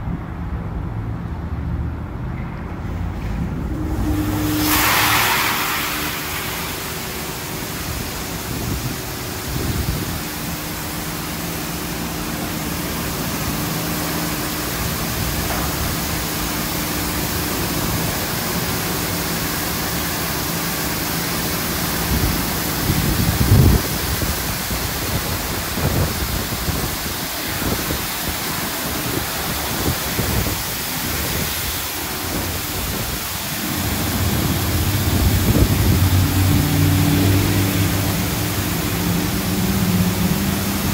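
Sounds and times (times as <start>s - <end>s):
low machine hum: 0.0s - 40.9s
water jets spraying car: 0.3s - 40.9s.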